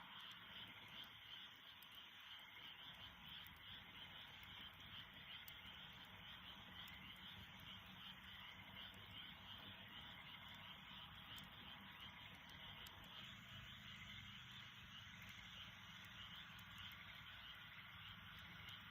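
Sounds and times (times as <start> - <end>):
campfire crackling: 0.0 - 18.9
frogs chorus: 0.0 - 18.9.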